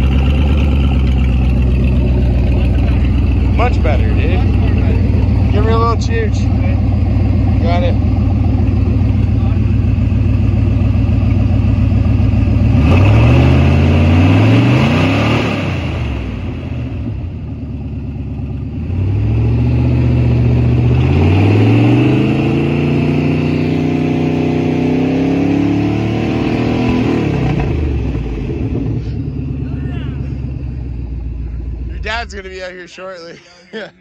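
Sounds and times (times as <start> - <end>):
truck engine idling and revving: 0.0 - 34.0.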